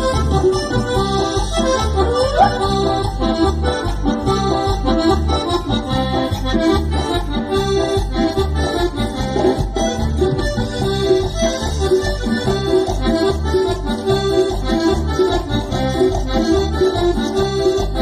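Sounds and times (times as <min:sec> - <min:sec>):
band playing instrumental music: 0:00.0 - 0:18.0.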